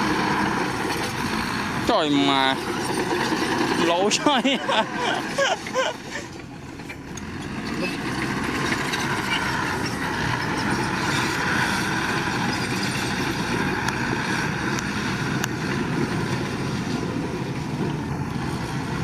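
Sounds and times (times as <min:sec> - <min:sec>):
heavy machinery diesel engine: 0:00.0 - 0:19.0.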